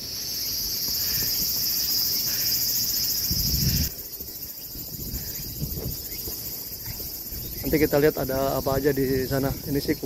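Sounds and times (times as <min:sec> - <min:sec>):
insects shrilling: 0:00.0 - 0:10.0.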